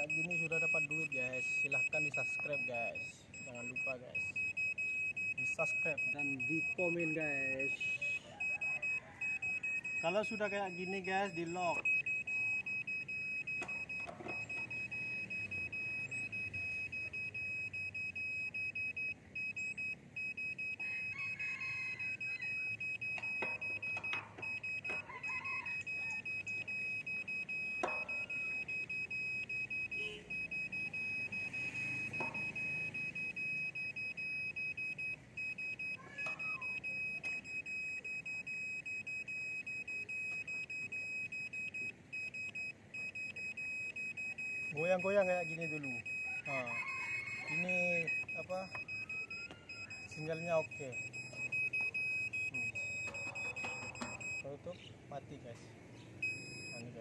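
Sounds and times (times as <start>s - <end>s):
rapid high-pitched meter beeping: 0.0s - 54.5s.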